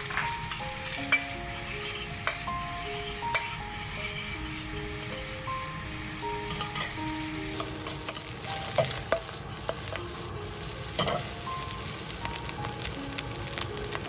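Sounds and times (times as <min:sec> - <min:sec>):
spatula scraping a pan: 0:00.0 - 0:12.9
rice sizzling in a hot pan: 0:00.0 - 0:14.0.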